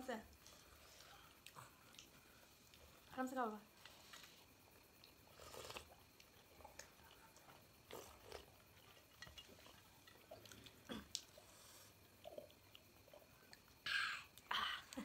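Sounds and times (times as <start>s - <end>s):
faint chewing: 0.3s - 15.0s.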